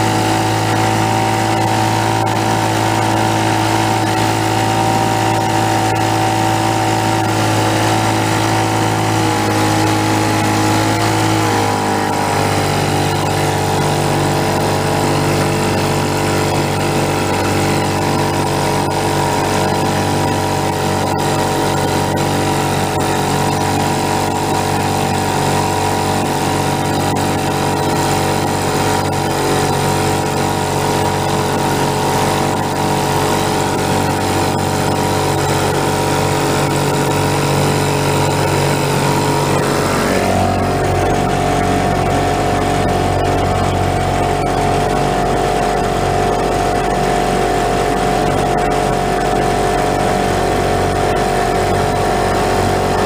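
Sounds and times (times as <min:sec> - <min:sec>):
two-stroke outboard motor running: 0:00.0 - 0:53.0.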